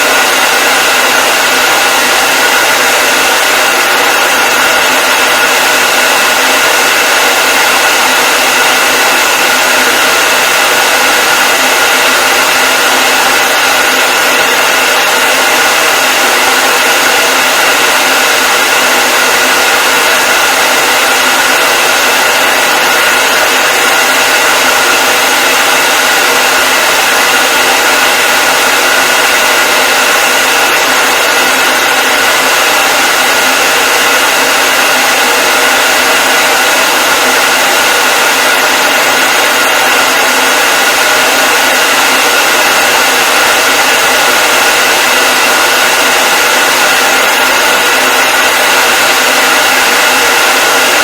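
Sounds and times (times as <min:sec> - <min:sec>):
hair dryer running: 0:00.0 - 0:51.0.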